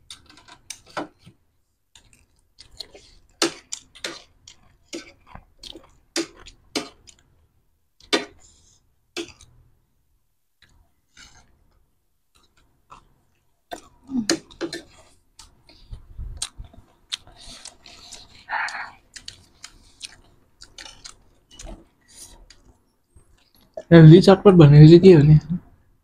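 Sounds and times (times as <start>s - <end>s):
chewing and crunching snacks: 0.0s - 8.6s, 9.2s - 9.6s, 10.6s - 23.9s.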